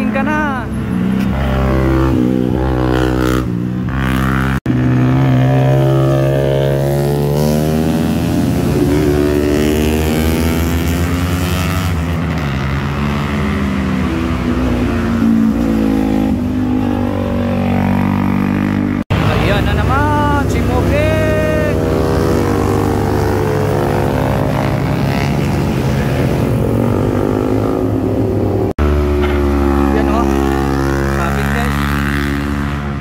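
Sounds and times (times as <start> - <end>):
motorcycle engines revving: 0.0 - 33.0.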